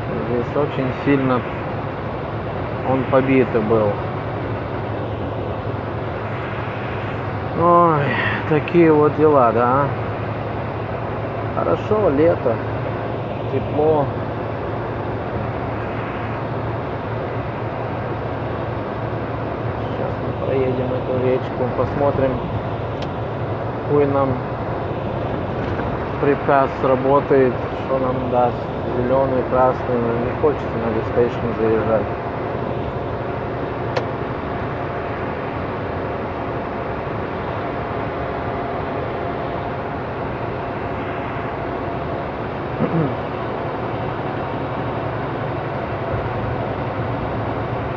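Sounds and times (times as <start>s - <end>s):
diesel engine drone: 0.0s - 47.9s
road and tyre noise: 0.0s - 47.9s.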